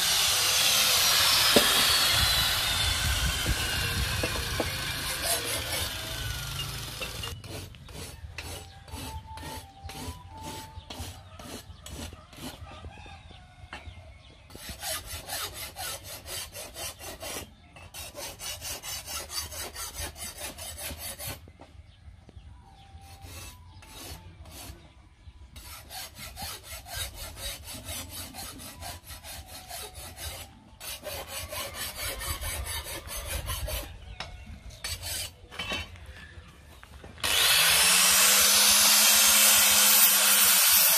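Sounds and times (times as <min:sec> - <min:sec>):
file rasping on steel blade: 0:00.0 - 0:12.6, 0:14.5 - 0:21.4, 0:22.8 - 0:25.0, 0:25.6 - 0:34.2, 0:34.8 - 0:35.9, 0:37.2 - 0:40.9.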